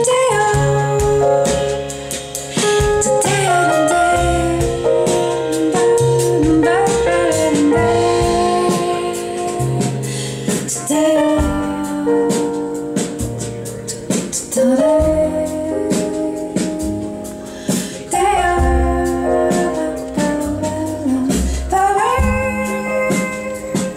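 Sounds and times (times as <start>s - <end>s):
woman singing: 0.0s - 2.0s, 2.6s - 13.0s, 14.5s - 23.9s
band playing bass and drums: 0.0s - 23.9s.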